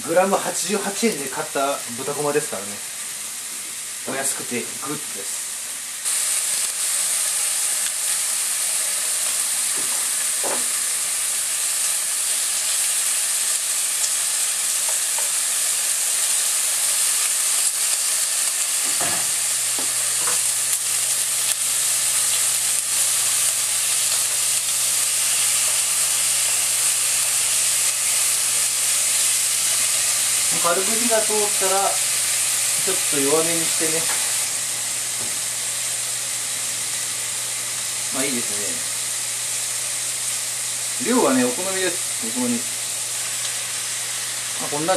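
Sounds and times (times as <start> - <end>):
meat sizzling in a frying pan: 0.0 - 44.9.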